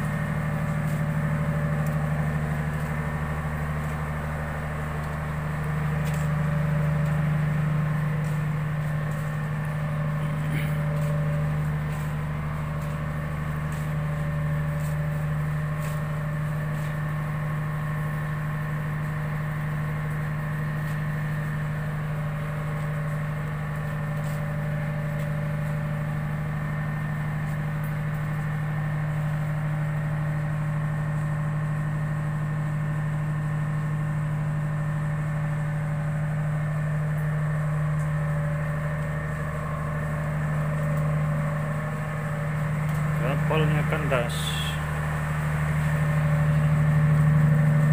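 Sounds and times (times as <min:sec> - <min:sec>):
ship engine humming: 0:00.0 - 0:47.9.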